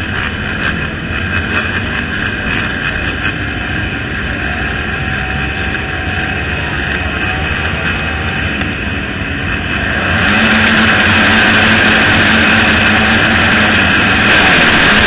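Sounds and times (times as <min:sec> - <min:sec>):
motocross bike engines running: 0:00.0 - 0:15.0.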